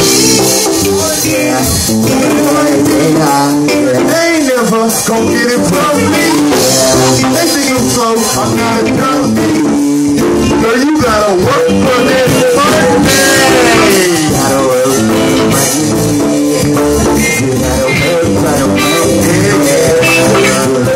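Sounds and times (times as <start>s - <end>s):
guitar lines: 0.0s - 20.9s
live band playing: 0.0s - 20.9s
person singing into microphone: 0.0s - 20.9s.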